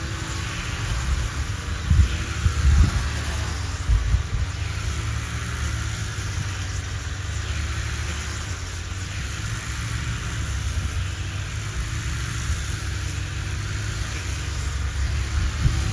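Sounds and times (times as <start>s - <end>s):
engine running with hiss: 0.0s - 15.9s.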